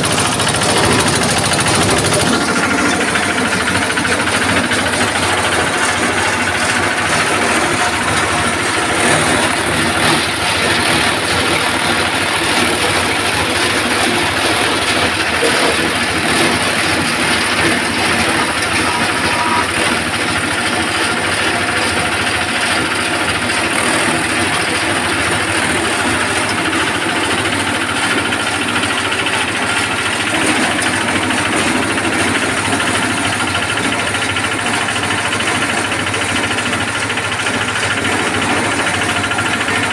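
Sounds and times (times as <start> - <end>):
forage chopper shredding corn leaves: 0.0 - 39.9.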